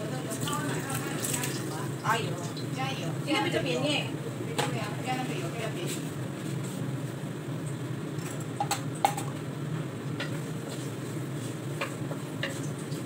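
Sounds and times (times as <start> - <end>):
kitchen fan hum: 0.0 - 13.0.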